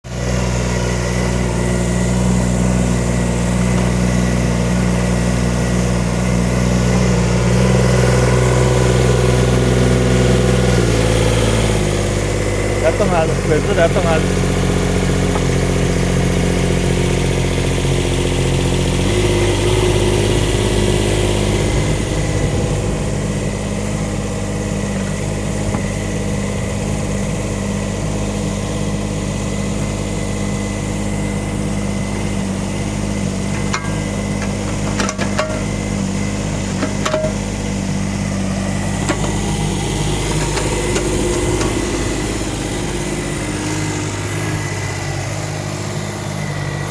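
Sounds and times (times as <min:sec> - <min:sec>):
mini excavator diesel engine: 0:00.0 - 0:46.9.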